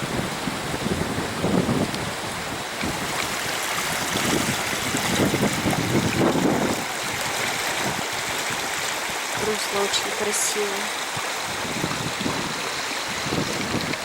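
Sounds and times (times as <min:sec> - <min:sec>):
wind buffeting microphone: 0:00.0 - 0:10.3, 0:10.9 - 0:14.0
river rushing over stones: 0:00.0 - 0:14.0.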